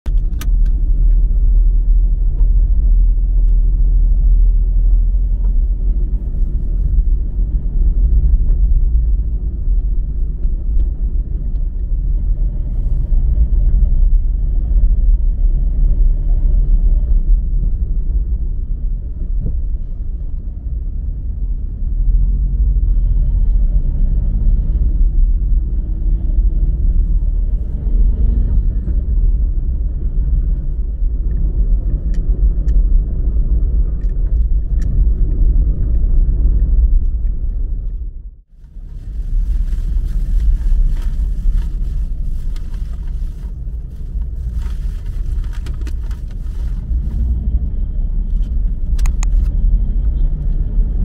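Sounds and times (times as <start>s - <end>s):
low rumble of car traffic: 0.1s - 51.0s.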